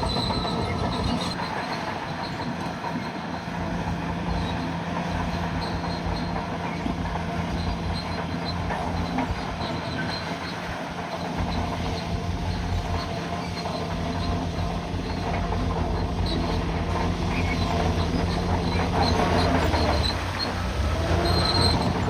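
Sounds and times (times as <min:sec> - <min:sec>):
bulldozer diesel engine: 0:00.0 - 0:22.0
steel tracks squeaking: 0:00.0 - 0:22.0.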